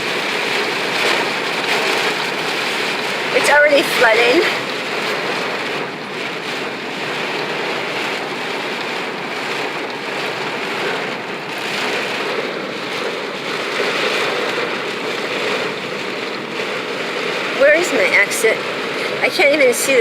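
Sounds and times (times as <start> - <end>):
heavy rain on a car: 0.0 - 20.0.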